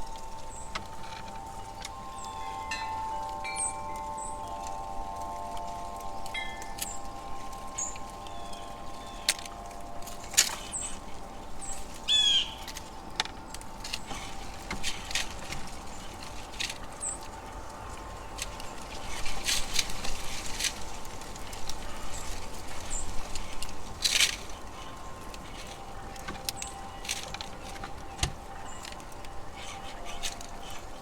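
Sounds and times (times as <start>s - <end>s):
birds chirping: 0.0s - 19.9s, 21.7s - 31.0s
wind chime ringing: 0.0s - 31.0s.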